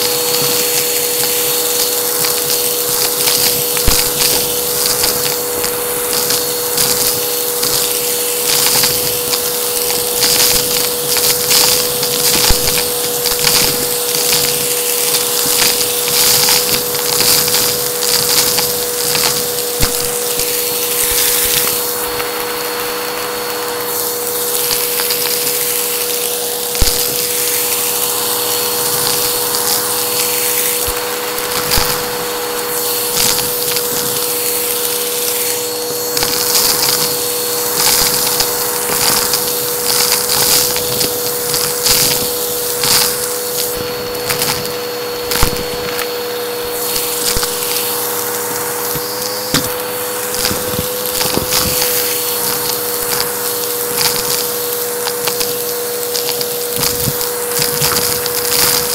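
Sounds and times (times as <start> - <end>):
airflow hiss: 0.0 - 58.9
vacuum cleaner motor whine: 0.0 - 58.9.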